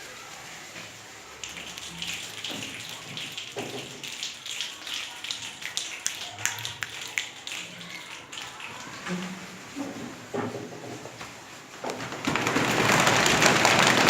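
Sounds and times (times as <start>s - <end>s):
children making rain body percussion: 0.0s - 11.2s, 11.8s - 14.0s.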